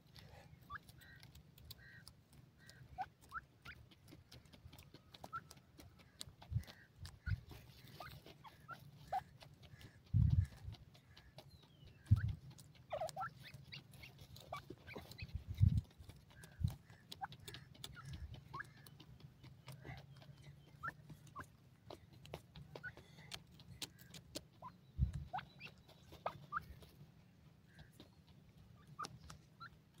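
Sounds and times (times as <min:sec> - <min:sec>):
birds scratching in dry soil: 0:00.0 - 0:30.0.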